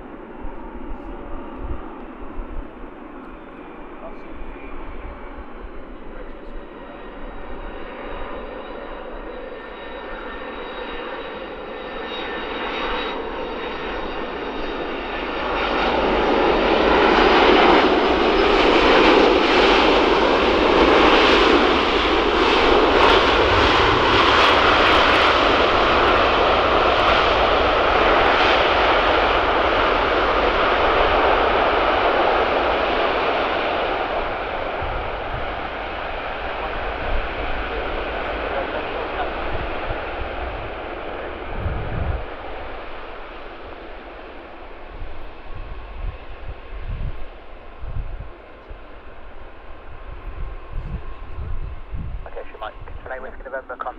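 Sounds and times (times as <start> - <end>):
jet aircraft engines roaring: 0.0 - 53.9.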